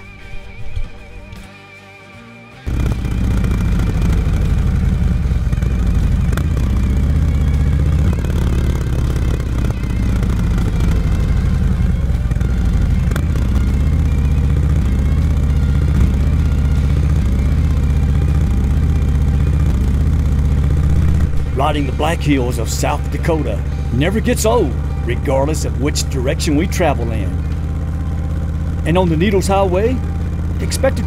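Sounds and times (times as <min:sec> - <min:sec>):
motorcycle engine running: 0:02.7 - 0:31.0.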